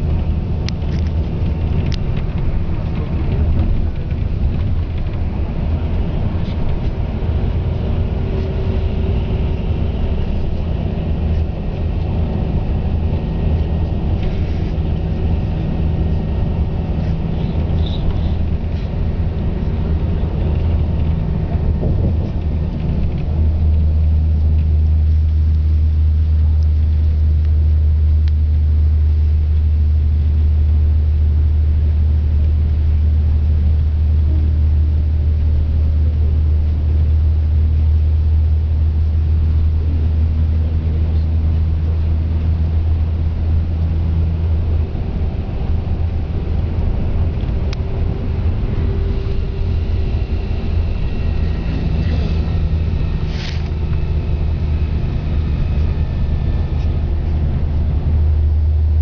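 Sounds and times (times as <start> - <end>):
bus engine and road noise drone: 0.0 - 59.0.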